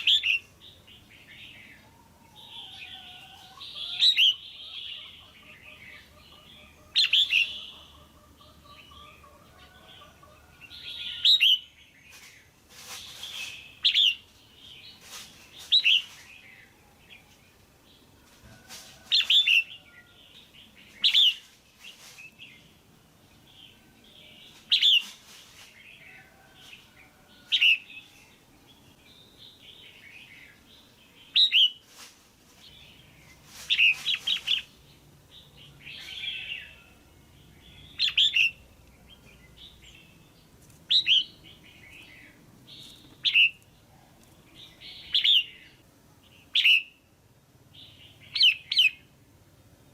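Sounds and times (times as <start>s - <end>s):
bird chirping calls: 0.0s - 18.1s, 23.3s - 31.8s, 32.7s - 47.1s, 47.7s - 49.2s.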